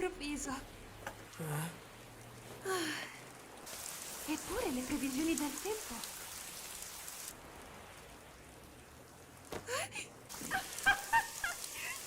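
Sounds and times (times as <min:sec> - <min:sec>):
heavy rain pouring: 0:00.2 - 0:12.0.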